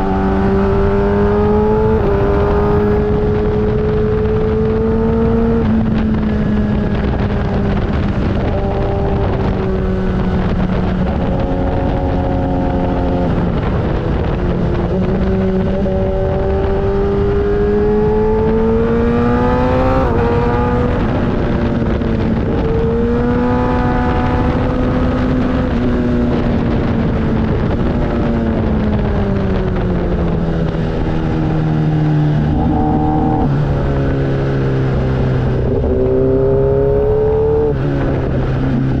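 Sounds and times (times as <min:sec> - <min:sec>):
low rushing noise: 0:00.0 - 0:39.0
motorcycle engine accelerating: 0:00.0 - 0:39.0.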